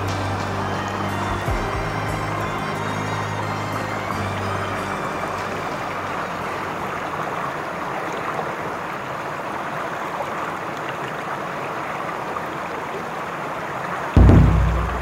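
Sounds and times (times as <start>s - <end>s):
mountain stream water rushing: 0.0s - 15.0s.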